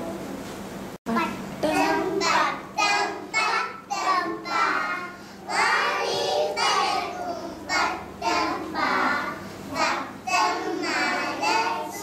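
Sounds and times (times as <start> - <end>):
children singing together: 1.6 - 12.0.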